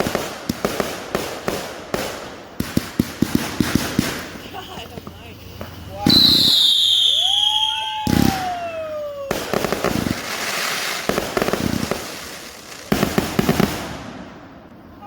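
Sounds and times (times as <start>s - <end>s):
firework bangs: 0.0s - 15.0s
fireworks crackling pops: 0.0s - 15.0s
fireworks whistling: 0.0s - 15.0s.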